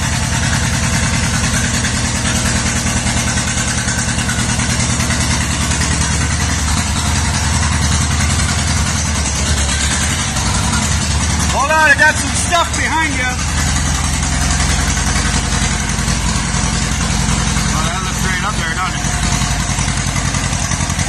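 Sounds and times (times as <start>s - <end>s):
bulldozer engine running: 0.0s - 21.0s.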